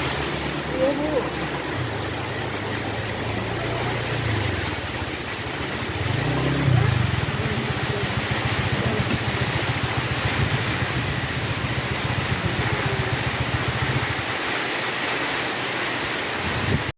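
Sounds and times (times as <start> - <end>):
heavy rain hissing: 0.0 - 16.9.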